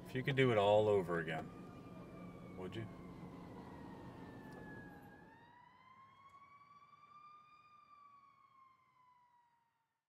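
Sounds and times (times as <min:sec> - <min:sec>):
faint siren wailing: 0:00.0 - 0:10.0.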